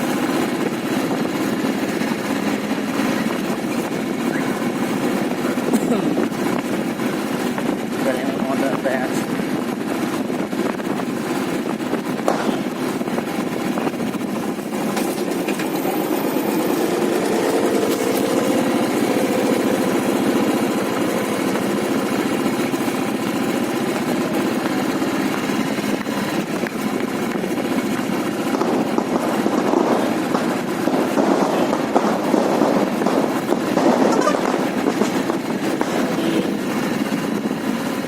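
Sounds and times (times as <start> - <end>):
motorcycle engine running: 0.0 - 38.0
road noise: 0.0 - 38.0.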